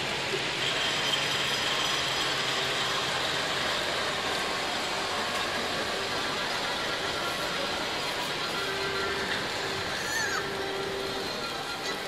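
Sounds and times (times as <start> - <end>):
model trains whirring and rattling: 0.0 - 12.0.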